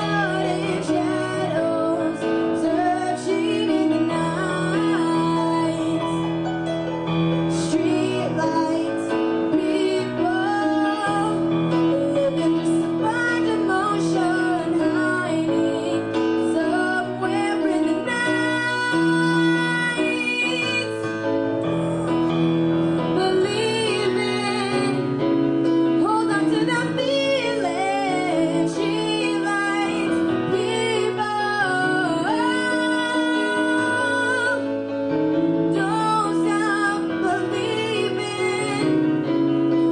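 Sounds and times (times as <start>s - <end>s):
young woman singing: 0.0s - 6.4s, 7.5s - 21.4s, 23.0s - 39.9s.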